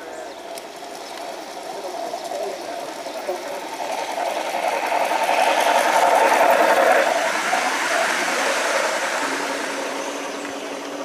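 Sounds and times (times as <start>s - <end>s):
model train motor whirr: 0.0s - 11.0s.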